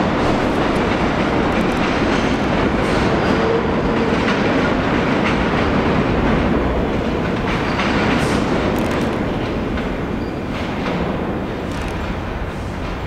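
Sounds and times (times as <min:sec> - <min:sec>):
train wheels on rails: 0:00.0 - 0:13.0
wheels clacking over rail joints: 0:00.0 - 0:13.0.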